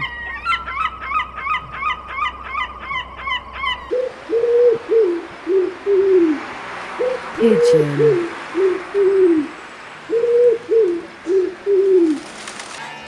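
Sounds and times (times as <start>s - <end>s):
seagull yelping calls: 0.0s - 12.4s
low hooting bird calls: 0.0s - 12.8s.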